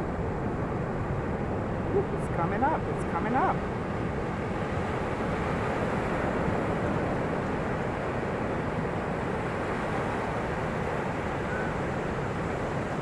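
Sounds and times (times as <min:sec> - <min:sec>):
ocean surf on shore: 0:00.1 - 0:13.0.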